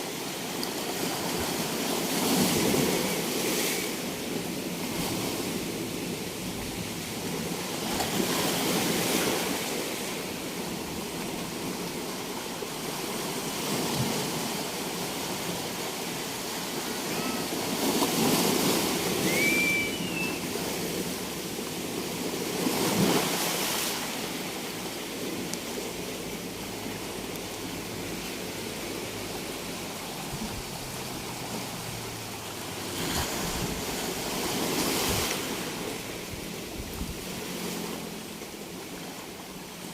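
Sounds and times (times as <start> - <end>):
sea surf breaking on a beach: 0.0 - 39.9.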